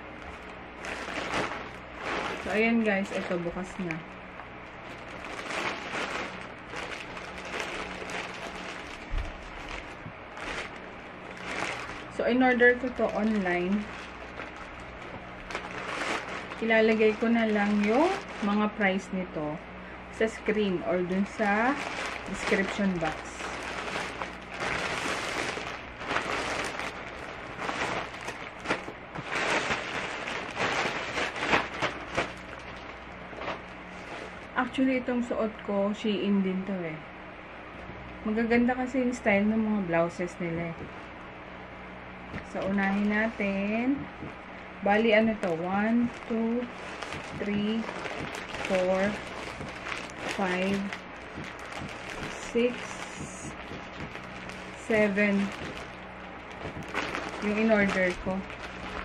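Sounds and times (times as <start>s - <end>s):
plastic packaging crinkling: 0.0s - 19.4s, 20.2s - 34.8s, 42.3s - 59.0s.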